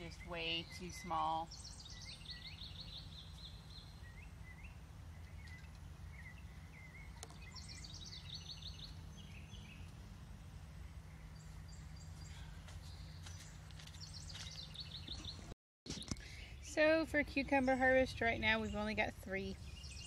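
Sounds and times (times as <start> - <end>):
songbird trilling and chirping: 0.0 - 10.0, 12.9 - 20.0.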